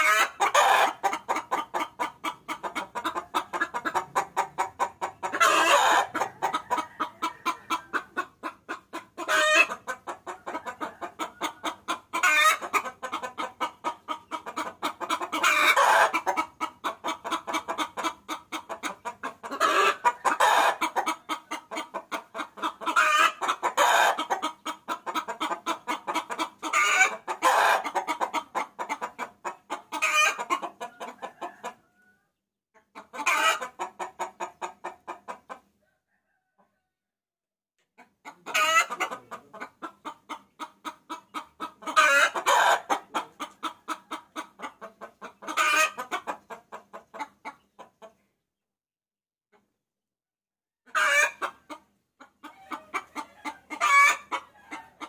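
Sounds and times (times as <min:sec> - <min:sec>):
hen cackling: 0:00.0 - 0:32.2, 0:32.8 - 0:35.6, 0:38.0 - 0:47.6, 0:50.9 - 0:55.0.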